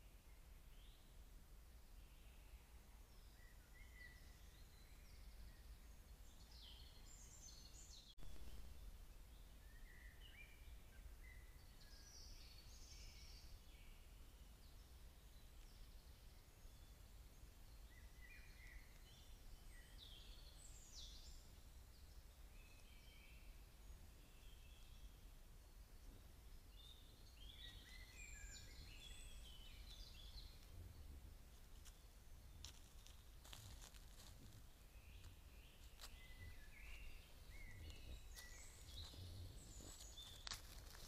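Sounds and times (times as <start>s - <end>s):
small birds chirping: 1.9s - 41.0s.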